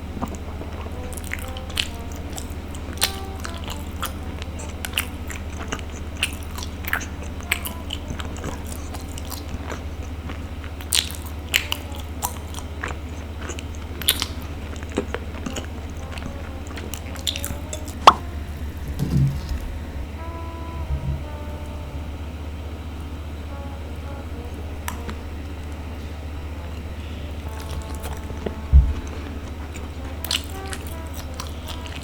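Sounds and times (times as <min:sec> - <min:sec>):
chewing sticky food: 0:00.0 - 0:20.2, 0:24.4 - 0:32.0
steady low hum: 0:00.0 - 0:32.0.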